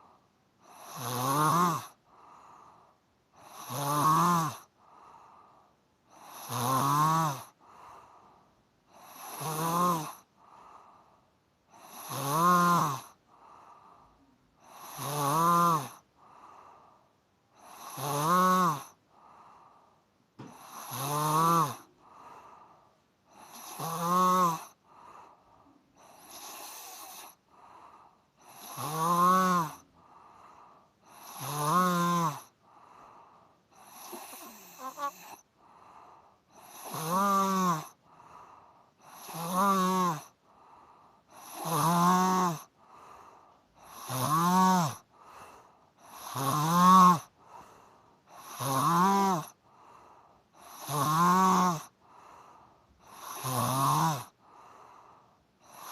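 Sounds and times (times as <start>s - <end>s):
person snoring: 0.0s - 11.1s, 11.7s - 17.0s, 17.6s - 19.8s, 20.4s - 55.9s
quiet breathing: 0.0s - 55.9s.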